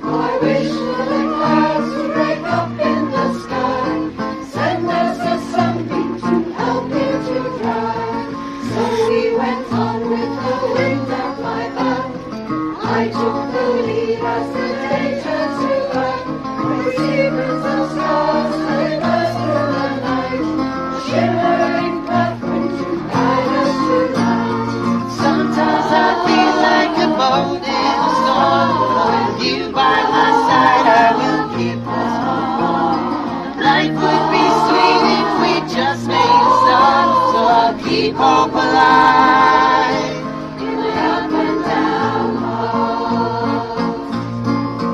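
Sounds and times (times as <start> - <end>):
acoustic guitars strumming: 0.0 - 44.9
choir singing: 0.0 - 44.9.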